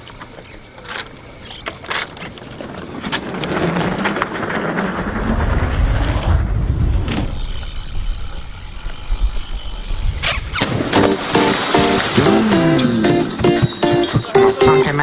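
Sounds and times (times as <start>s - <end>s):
bike tyre and wind rumble: 0.0s - 12.2s.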